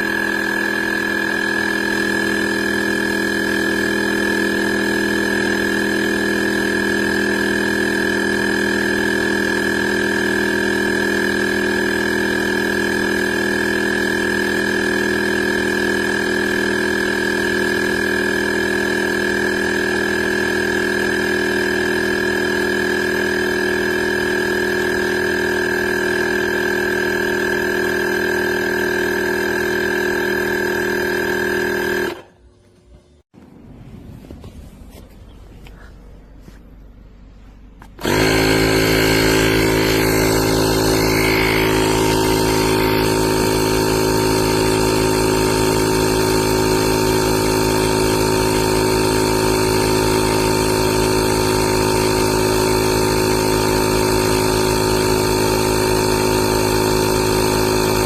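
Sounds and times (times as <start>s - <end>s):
air compressor droning: 0.0s - 58.0s.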